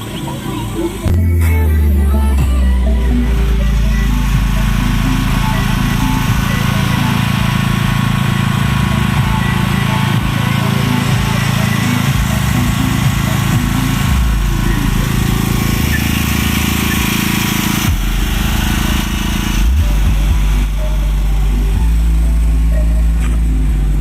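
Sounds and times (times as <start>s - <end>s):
loud music with heavy bass: 0.0s - 24.0s.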